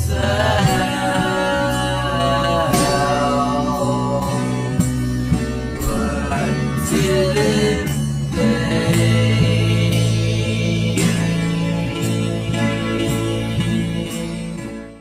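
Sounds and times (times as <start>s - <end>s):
song with guitar and vocals: 0.0s - 15.0s.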